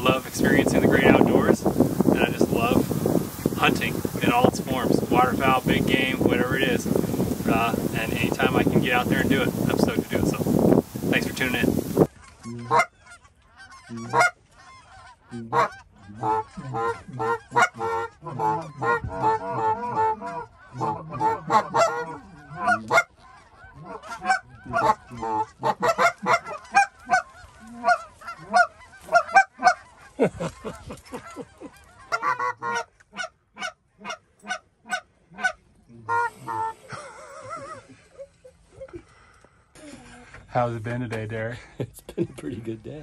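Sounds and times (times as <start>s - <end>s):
geese honking: 0.0s - 38.3s.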